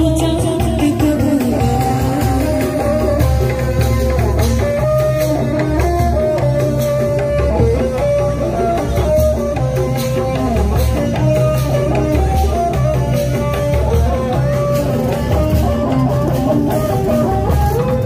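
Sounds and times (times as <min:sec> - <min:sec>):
loud music with strong bass: 0:00.0 - 0:18.0.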